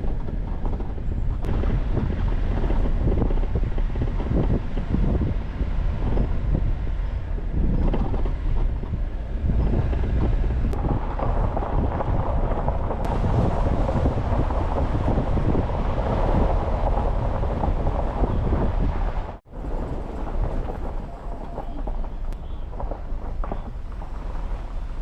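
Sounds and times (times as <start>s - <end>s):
tyres rumbling on dirt road: 0.0s - 25.0s
wind buffeting microphone: 0.0s - 25.0s.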